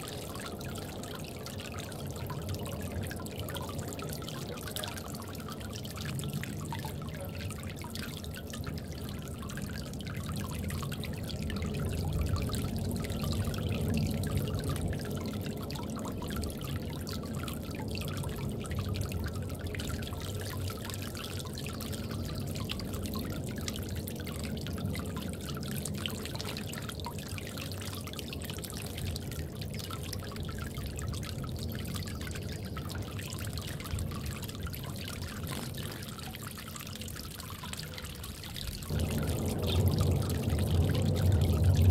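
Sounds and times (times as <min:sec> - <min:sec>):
water trickling and dripping: 0:00.0 - 0:41.9.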